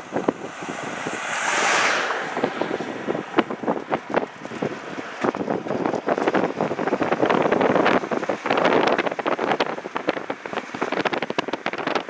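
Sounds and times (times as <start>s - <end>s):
truck passing whoosh: 0.0s - 12.0s
wind buffeting microphone: 0.0s - 12.0s.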